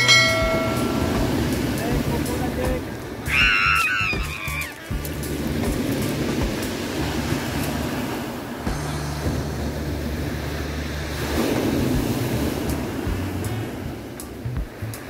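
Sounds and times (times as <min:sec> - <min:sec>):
surf washing onto beach: 0:00.0 - 0:15.0
wind rumble on microphone: 0:00.0 - 0:15.0.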